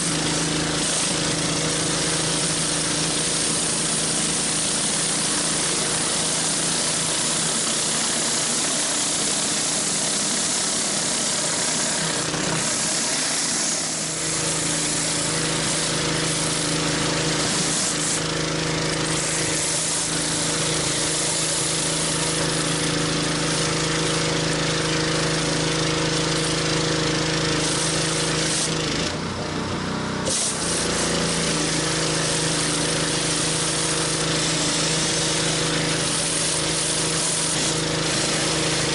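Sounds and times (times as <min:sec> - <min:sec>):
water spraying on concrete: 0:00.0 - 0:29.2, 0:30.2 - 0:38.9
pressure washer engine running: 0:00.0 - 0:38.9.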